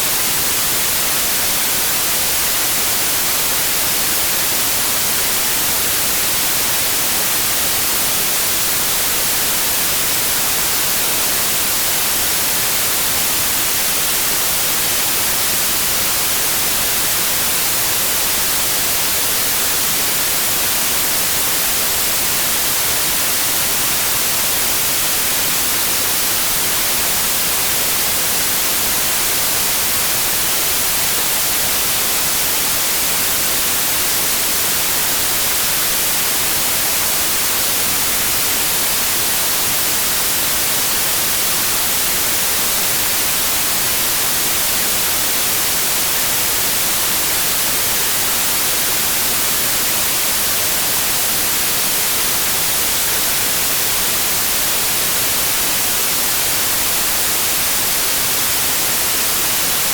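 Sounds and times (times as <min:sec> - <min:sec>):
white noise: 0:00.0 - 0:59.9.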